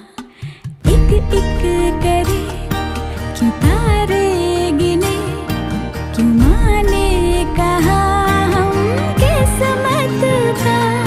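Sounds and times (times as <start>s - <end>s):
film song with vocals and beat: 0.0s - 11.0s.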